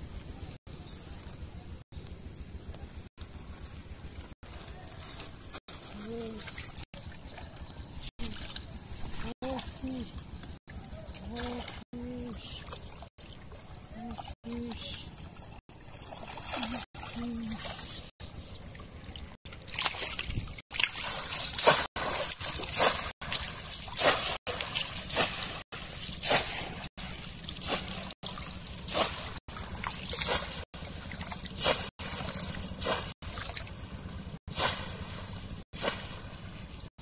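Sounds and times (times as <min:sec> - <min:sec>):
water sloshing and splashing: 0:03.2 - 0:37.0.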